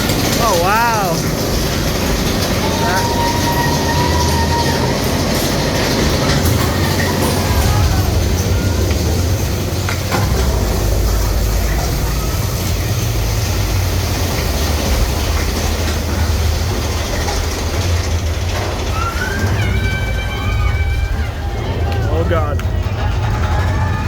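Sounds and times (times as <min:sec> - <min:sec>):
roller coaster rumble and clatter: 0:00.0 - 0:24.0
short rising squeals: 0:01.6 - 0:21.9.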